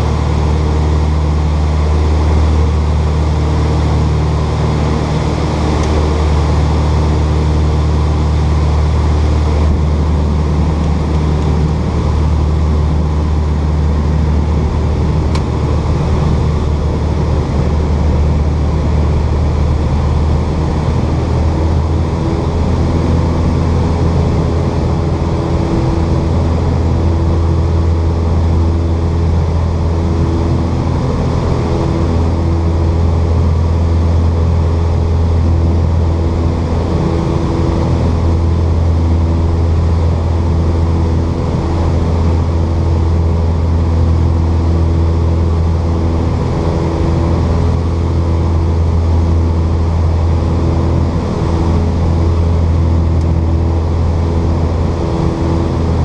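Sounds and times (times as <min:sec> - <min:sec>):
low hum: 0:00.0 - 0:56.0
propeller aircraft engines droning: 0:00.0 - 0:56.0.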